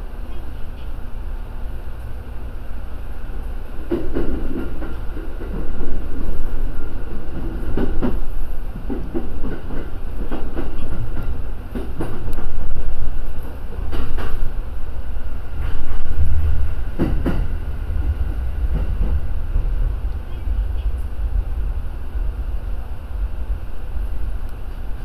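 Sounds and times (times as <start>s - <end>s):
train low rumble: 0.0s - 25.0s.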